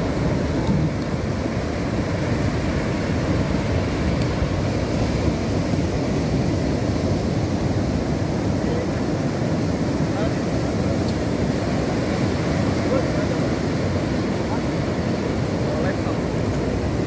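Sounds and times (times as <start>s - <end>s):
heavy surf breaking on beach: 0.0s - 17.0s.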